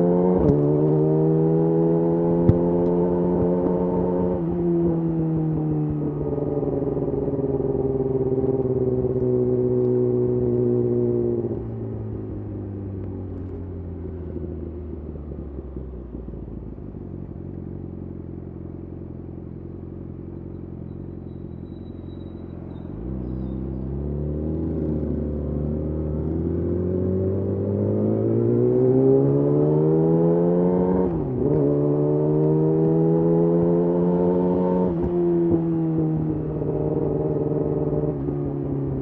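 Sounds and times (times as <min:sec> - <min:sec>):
motorcycle engine revving: 0:00.0 - 0:12.4, 0:17.8 - 0:39.0.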